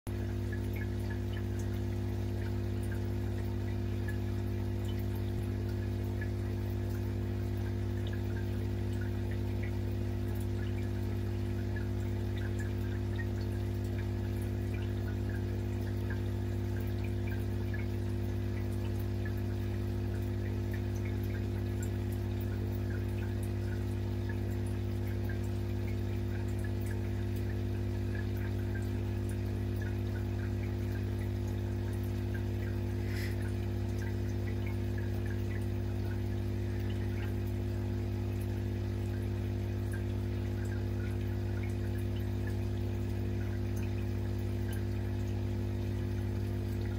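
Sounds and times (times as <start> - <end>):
air bubbles trickling and popping: 0.1 - 46.9
steady low hum: 0.1 - 46.9.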